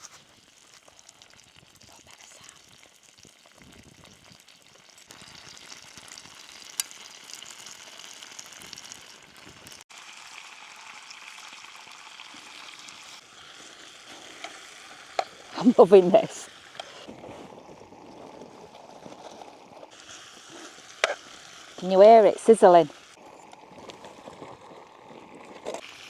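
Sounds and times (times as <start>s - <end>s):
bacon sizzling: 0.0s - 26.0s.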